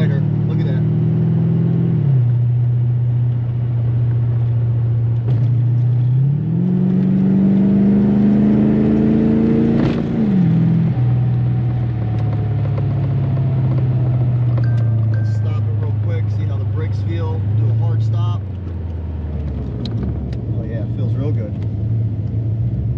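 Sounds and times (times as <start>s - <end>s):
car engine revving: 0.0s - 22.9s
road noise: 0.0s - 22.9s.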